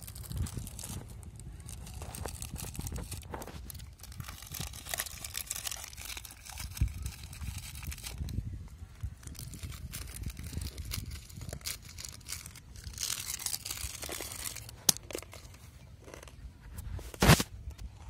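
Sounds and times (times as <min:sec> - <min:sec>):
sharp crackle: 0:00.0 - 0:08.3, 0:09.0 - 0:16.3
plastic snack packet crinkling: 0:00.0 - 0:16.4.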